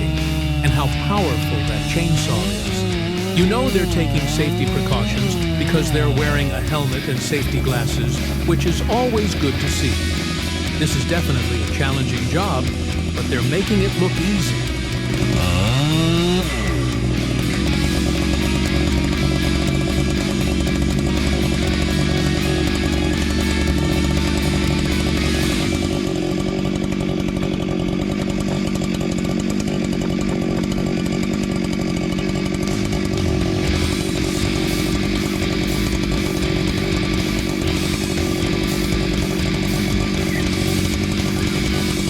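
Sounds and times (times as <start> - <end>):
chainsaw cutting tree: 0.0 - 42.0.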